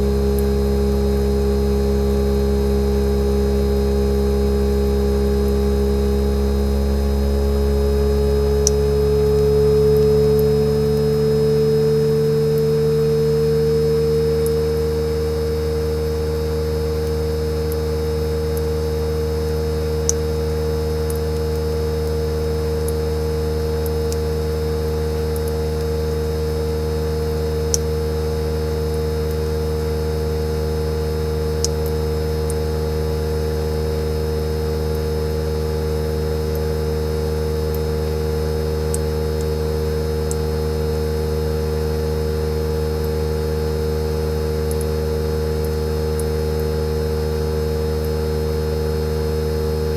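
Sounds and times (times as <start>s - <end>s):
air conditioner compressor humming: 0.0s - 49.9s.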